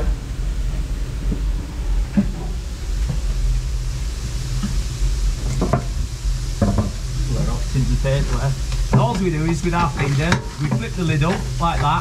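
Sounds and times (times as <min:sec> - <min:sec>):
low rumble: 0:00.0 - 0:12.0
steady hiss: 0:00.0 - 0:12.0.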